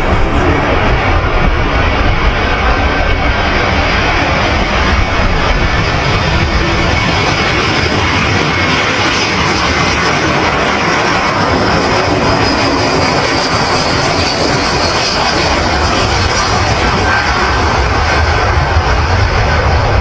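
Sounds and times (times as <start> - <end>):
airliner jet engines: 0.0 - 20.0.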